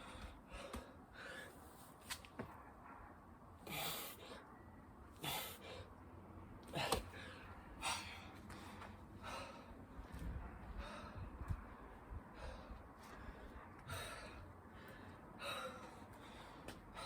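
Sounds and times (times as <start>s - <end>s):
man breathing hard: 0.0s - 1.8s, 3.6s - 4.5s, 5.2s - 6.0s, 6.7s - 17.0s.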